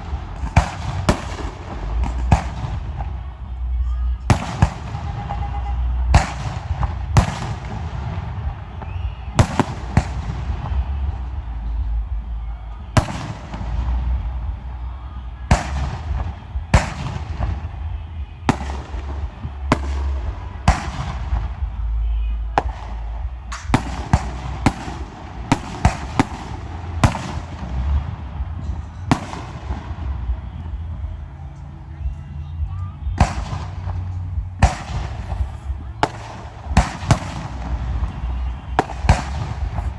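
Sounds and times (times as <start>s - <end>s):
fireworks shells booming: 0.0s - 14.8s, 15.5s - 31.6s, 32.4s - 39.9s
low rumble: 0.0s - 39.9s.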